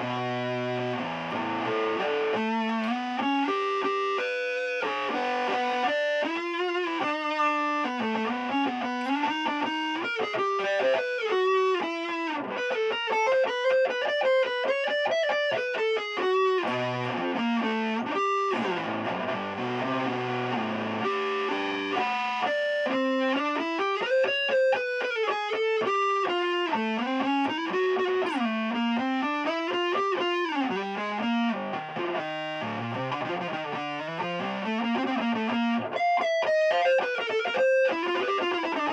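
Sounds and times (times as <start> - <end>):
distorted electric guitar lead: 0.0 - 38.9.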